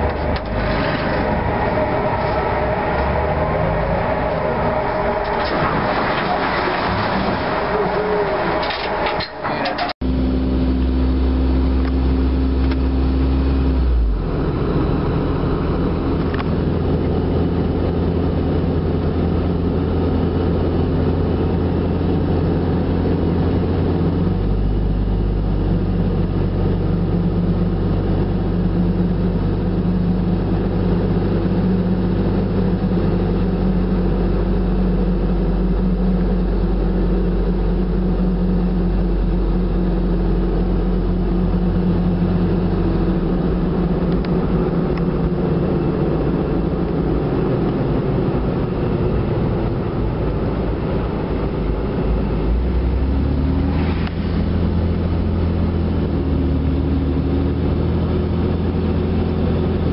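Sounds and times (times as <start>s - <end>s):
heavy machinery rumble: 0.0s - 59.9s
vehicle engine and road noise: 0.0s - 59.9s.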